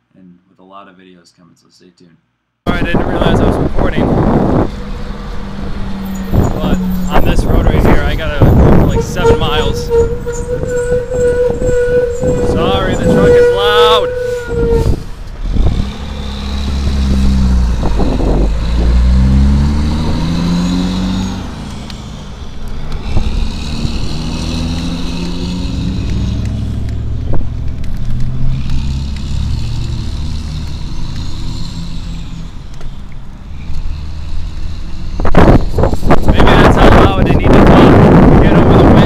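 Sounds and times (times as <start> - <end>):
road traffic passing: 2.7 - 39.0.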